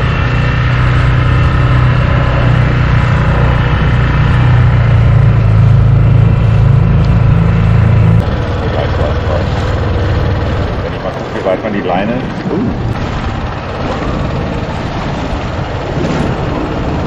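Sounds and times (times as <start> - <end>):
small outboard motor running: 0.0 - 17.0
wind: 0.0 - 17.0.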